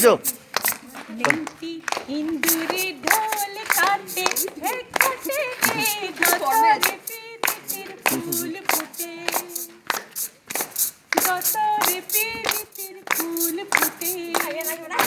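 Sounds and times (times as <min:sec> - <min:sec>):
voices singing: 0:00.0 - 0:10.1, 0:11.1 - 0:15.0
group clapping hands: 0:00.0 - 0:15.0.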